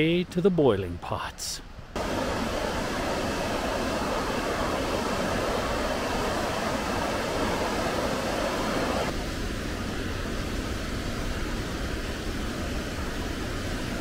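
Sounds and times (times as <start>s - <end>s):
fast-flowing river water: 2.0s - 14.0s.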